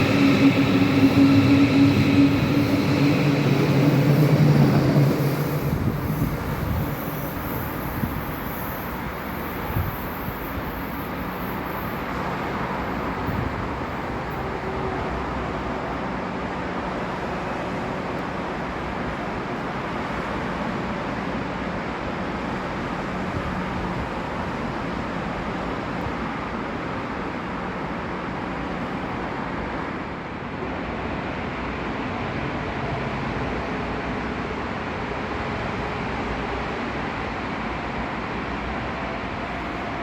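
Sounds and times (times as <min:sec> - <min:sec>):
rail traffic rumble and hiss: 0:00.0 - 0:40.0.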